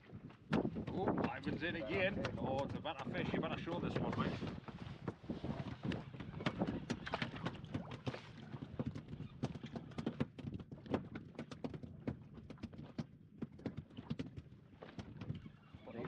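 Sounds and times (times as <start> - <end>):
light knocks on inflatable boat: 0.5 - 5.2, 5.8 - 15.5.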